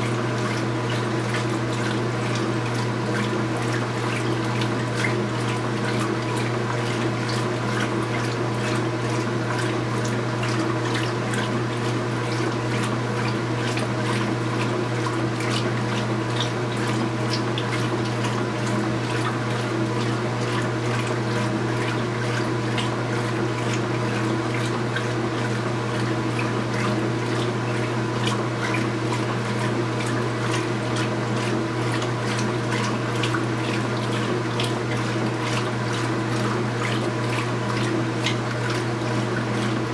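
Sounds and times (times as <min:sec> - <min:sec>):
washing machine hum: 0:00.0 - 0:39.9
water running into tub: 0:00.0 - 0:39.9.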